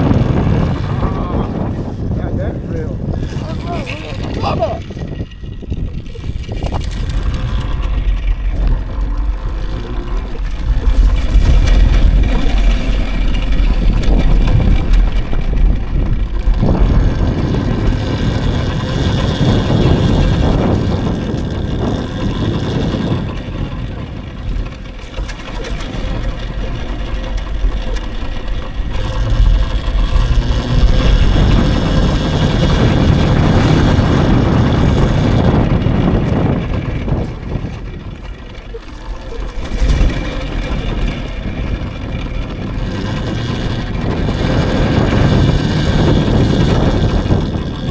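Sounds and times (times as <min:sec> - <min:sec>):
deep rumbling wind buffets: 0:00.0 - 0:47.9
dirt bike tyre noise: 0:00.0 - 0:47.9
wind rushing over microphone: 0:00.0 - 0:47.9.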